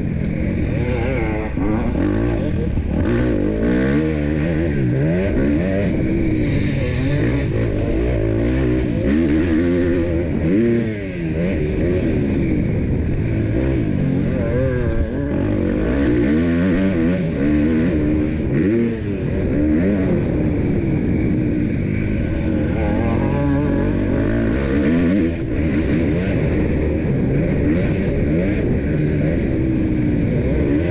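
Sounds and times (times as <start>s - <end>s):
motocross engine revving: 0.2s - 30.9s.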